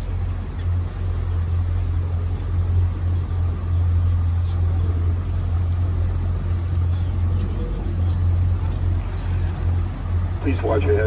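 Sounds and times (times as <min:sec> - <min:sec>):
boat motor humming: 0:00.0 - 0:11.0
water rushing past hull: 0:00.0 - 0:11.0.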